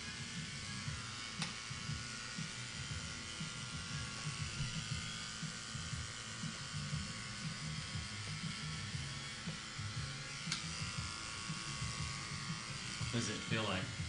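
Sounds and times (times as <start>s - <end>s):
electric hair clipper running: 0.0s - 14.0s.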